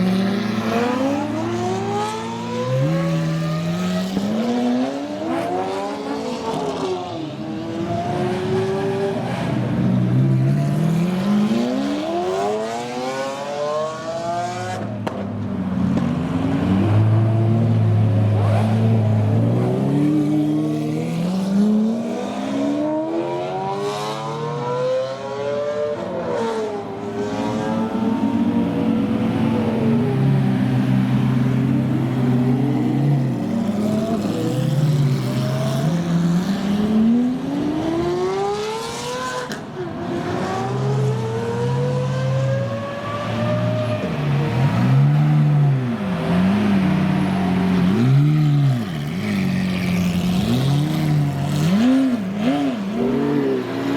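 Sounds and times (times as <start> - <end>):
car engines revving and accelerating: 0.0 - 53.9.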